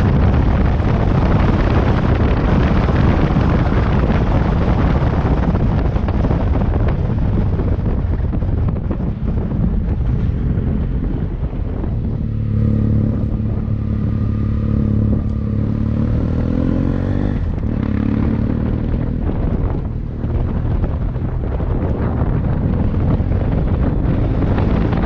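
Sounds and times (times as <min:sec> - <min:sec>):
motorcycle engine revving: 0:00.0 - 0:25.0
wind buffeting microphone: 0:00.0 - 0:25.0.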